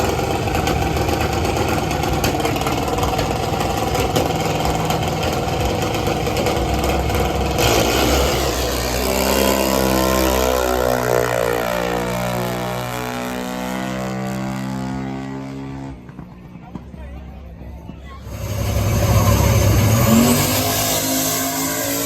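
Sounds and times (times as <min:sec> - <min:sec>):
drag racing car engine revving: 0:00.0 - 0:16.2, 0:18.2 - 0:22.0.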